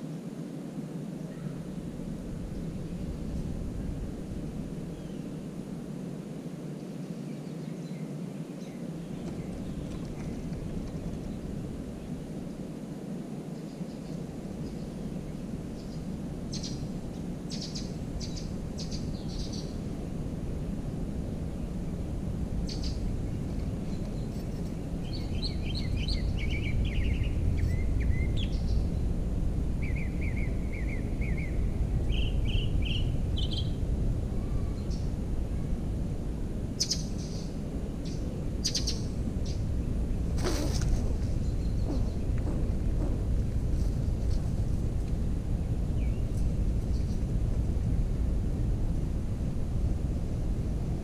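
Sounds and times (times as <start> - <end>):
songbirds chirping: 1.2 - 47.5
low outdoor rumble: 8.6 - 51.0.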